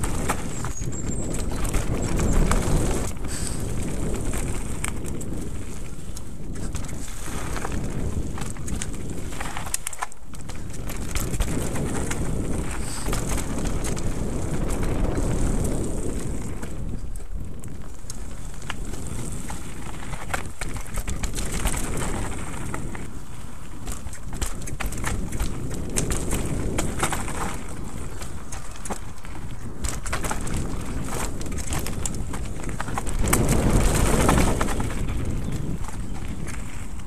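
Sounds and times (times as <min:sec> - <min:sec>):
bike rattling over bumps: 0:00.0 - 0:37.0
tyres rolling over dirt: 0:00.0 - 0:37.0
wind on microphone: 0:00.0 - 0:37.0.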